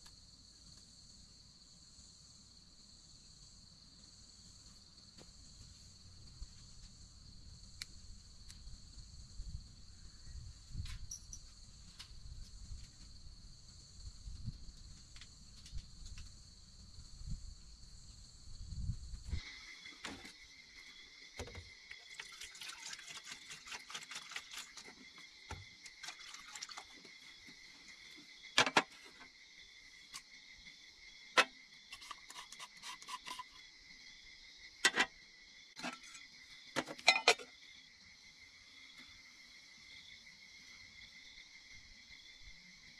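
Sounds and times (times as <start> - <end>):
insects chorus: 0.0 - 42.9.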